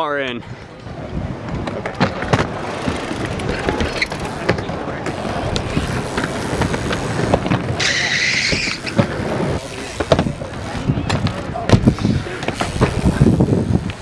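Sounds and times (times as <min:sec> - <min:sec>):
wheels rolling over wooden ramps: 0:00.7 - 0:14.0.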